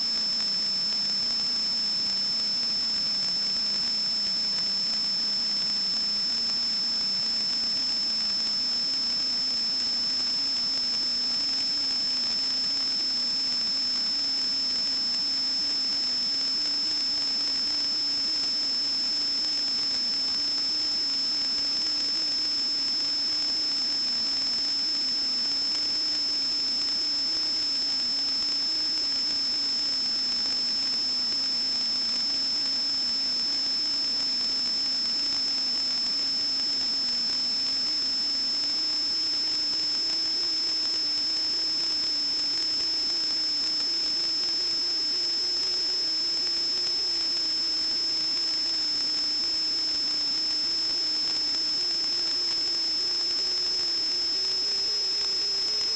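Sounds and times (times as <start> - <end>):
high-pitched electronic whine: 0.0 - 55.9.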